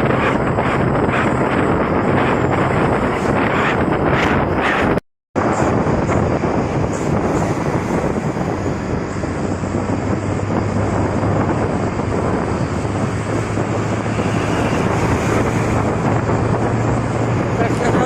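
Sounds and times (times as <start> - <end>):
road and wind noise: 0.0 - 18.0
truck engine drone: 0.0 - 18.0.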